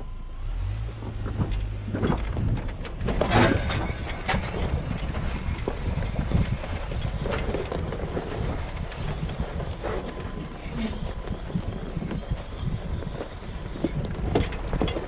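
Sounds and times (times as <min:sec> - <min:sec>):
truck engine and tyres rumbling: 0:00.0 - 0:15.0
knocks and rattles over rocks: 0:00.8 - 0:15.0.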